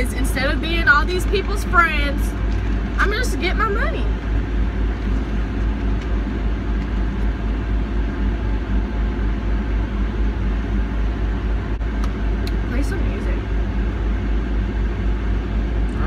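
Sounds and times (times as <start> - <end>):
car engine and road noise: 0.0 - 14.1.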